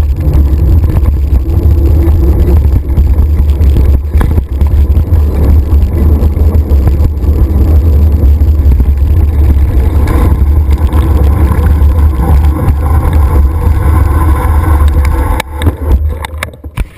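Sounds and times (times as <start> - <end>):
bike tyres rolling: 0.0 - 16.9
wind buffeting microphone: 0.0 - 16.9.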